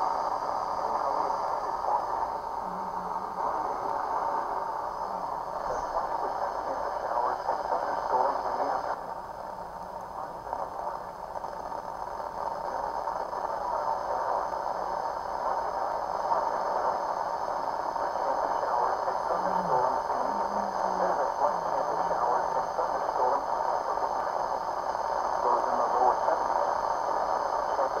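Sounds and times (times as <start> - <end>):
radio static hiss: 0.0 - 28.0
faint voice on radio: 0.1 - 28.0.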